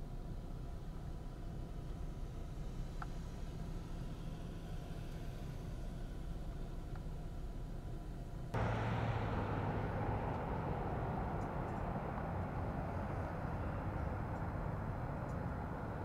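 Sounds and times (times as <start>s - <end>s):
vehicle rumble and hiss: 0.0s - 16.0s.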